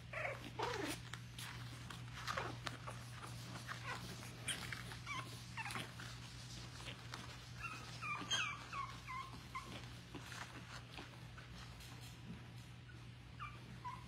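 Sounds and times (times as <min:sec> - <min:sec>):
puppies whimpering: 0:00.0 - 0:11.2, 0:12.9 - 0:14.0.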